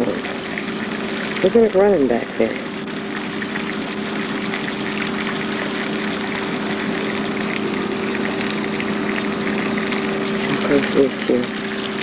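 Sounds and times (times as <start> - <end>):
constant noise wash: 0.0 - 12.0
motor humming steadily: 0.0 - 12.0.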